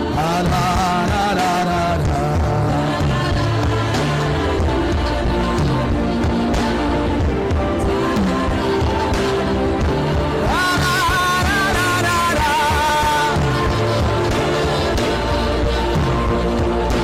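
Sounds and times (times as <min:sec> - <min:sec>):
bass line: 0:00.0 - 0:17.0
slow worship music chords: 0:00.0 - 0:17.0.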